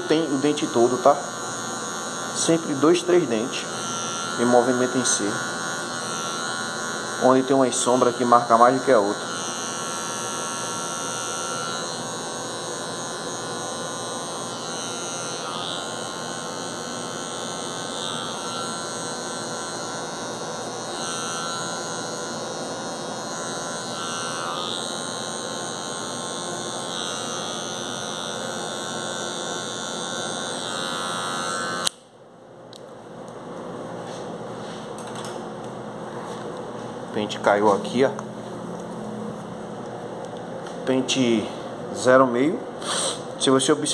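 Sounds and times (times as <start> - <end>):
electric hair clipper buzzing: 0.0 - 32.1, 34.1 - 43.8.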